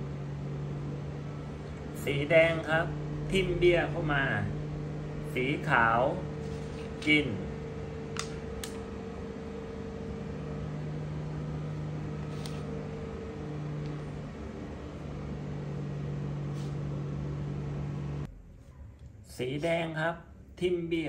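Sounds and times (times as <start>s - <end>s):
motor or fan humming: 0.0s - 18.5s.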